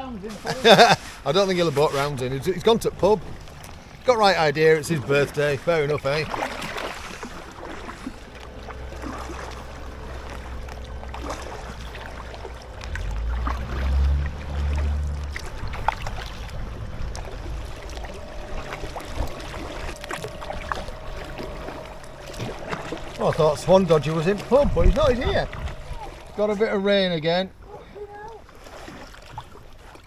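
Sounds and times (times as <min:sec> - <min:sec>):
water splashing and trickling: 0:00.0 - 0:30.0
low rumble: 0:00.7 - 0:28.8.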